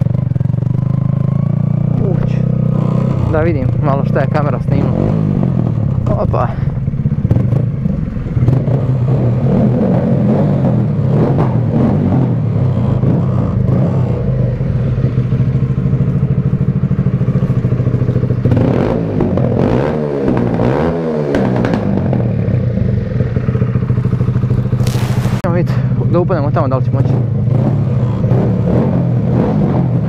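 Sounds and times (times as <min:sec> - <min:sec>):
motorcycle engine idling: 0:00.0 - 0:19.6, 0:21.2 - 0:29.3.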